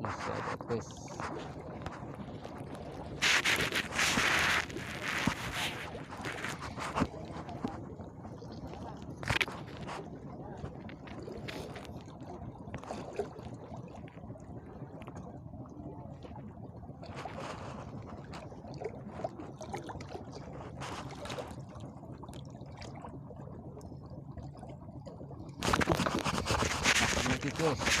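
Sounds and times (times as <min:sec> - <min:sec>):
water lapping against rocks: 0:00.0 - 0:28.0
water splashes: 0:00.0 - 0:28.0.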